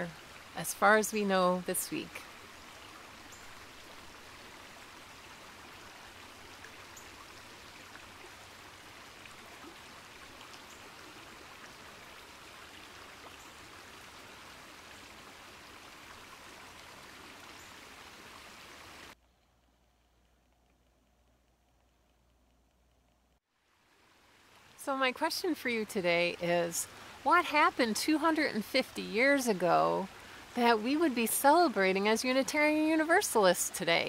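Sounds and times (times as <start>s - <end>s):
creek water rushing: 0.0s - 19.2s, 23.6s - 33.8s.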